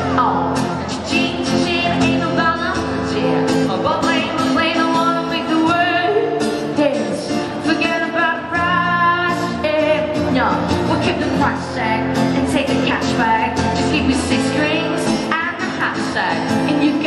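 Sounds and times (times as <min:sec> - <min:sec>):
acoustic guitar: 0:00.0 - 0:17.0
woman singing pop song: 0:00.0 - 0:17.0.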